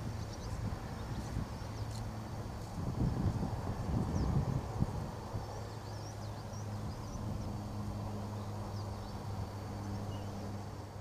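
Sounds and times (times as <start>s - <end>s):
small birds chirping: 0.0s - 2.8s, 3.9s - 4.5s, 5.3s - 11.0s
low engine hum: 0.0s - 11.0s.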